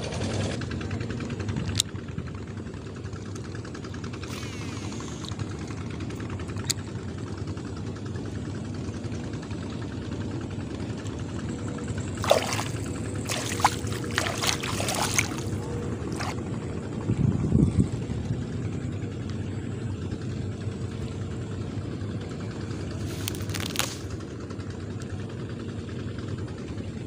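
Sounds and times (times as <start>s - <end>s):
low engine running: 0.0s - 27.0s.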